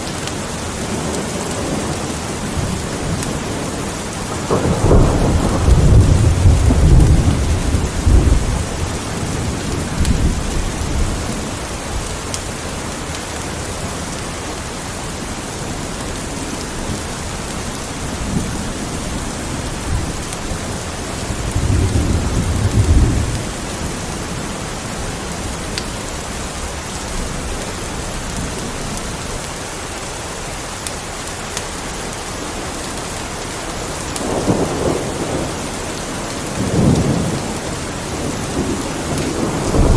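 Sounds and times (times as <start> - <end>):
steady rain: 0.0 - 39.9
thunder rumbling: 0.7 - 12.7, 15.1 - 29.5, 33.7 - 39.9.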